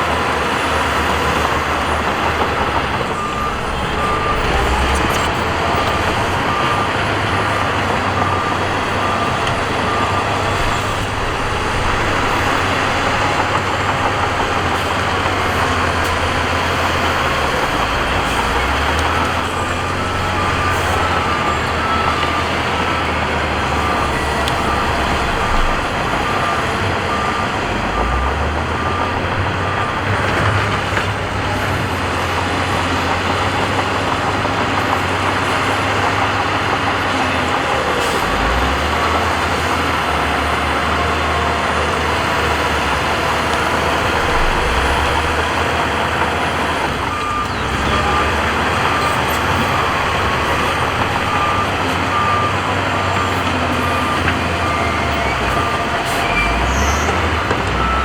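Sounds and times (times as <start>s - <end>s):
diesel machinery engine rumbling: 0.0s - 58.0s
reversing alarm beeping: 0.0s - 58.0s.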